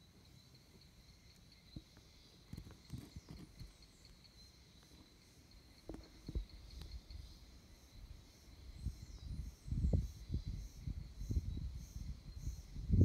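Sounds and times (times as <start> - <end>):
insect trill: 0.0 - 13.0.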